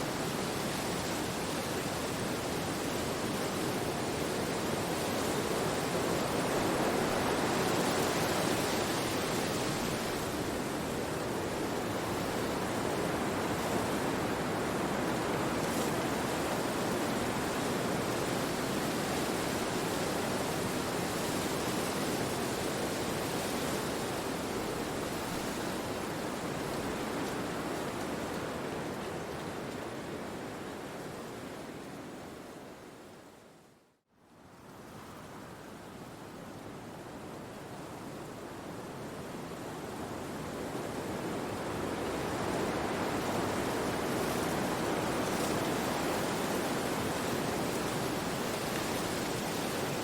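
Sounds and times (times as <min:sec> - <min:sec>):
wind through trees: 0:00.0 - 0:50.0.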